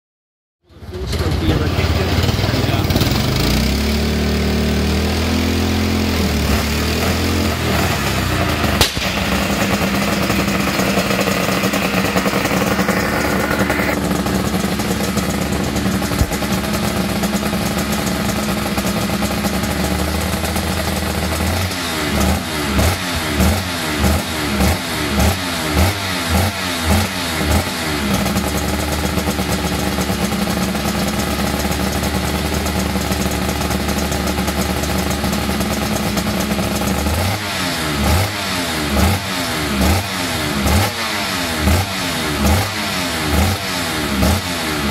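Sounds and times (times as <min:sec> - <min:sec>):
two-stroke engine idling and blipping: 0:00.7 - 0:44.9.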